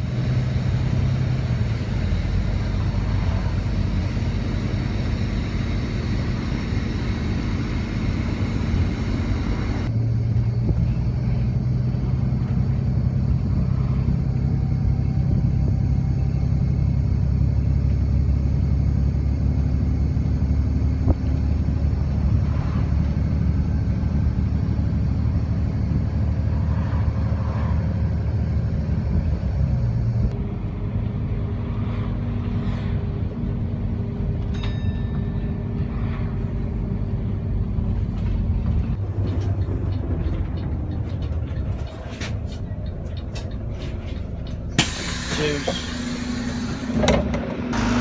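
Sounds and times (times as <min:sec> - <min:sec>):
road traffic: 0:00.0 - 0:48.0
vehicle engine rumble: 0:00.0 - 0:48.0.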